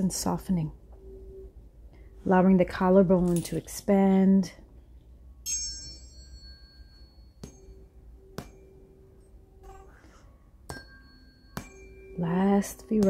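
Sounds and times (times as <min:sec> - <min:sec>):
tuning fork ringing: 0:00.0 - 0:03.6, 0:04.2 - 0:13.0.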